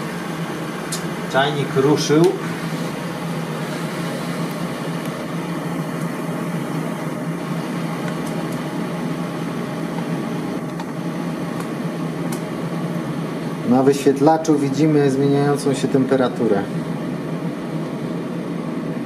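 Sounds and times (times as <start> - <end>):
electric kettle humming: 0.0 - 19.0.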